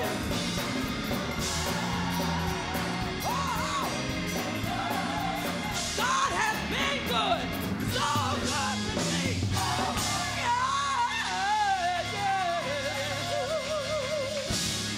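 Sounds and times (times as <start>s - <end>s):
gospel choir singing: 0.0s - 14.7s
band accompaniment: 0.0s - 14.9s.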